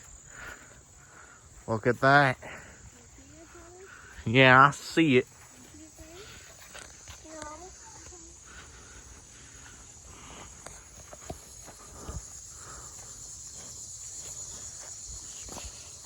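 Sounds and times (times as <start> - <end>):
footsteps on trail: 0.0 - 16.0
insects trilling: 0.0 - 16.0.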